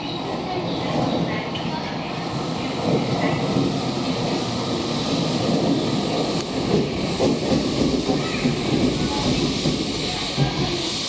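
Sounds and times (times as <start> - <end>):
subway train running: 0.0 - 11.0.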